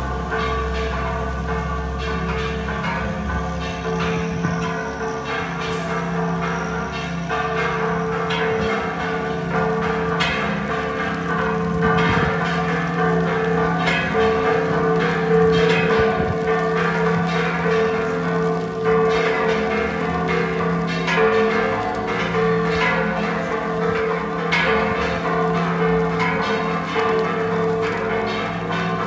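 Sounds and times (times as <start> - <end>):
church bells pealing: 0.0 - 29.0
hum of larger bells: 0.0 - 29.0.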